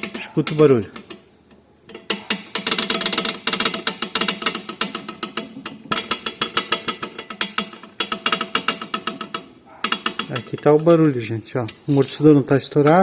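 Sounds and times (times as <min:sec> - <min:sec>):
shock absorber rod clacking: 0:00.0 - 0:11.9.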